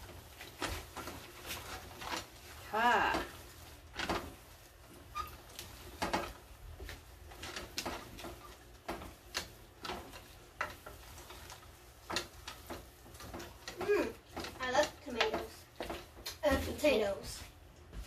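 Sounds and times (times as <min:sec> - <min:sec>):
wooden spatula scraping a pot: 0:00.0 - 0:17.4.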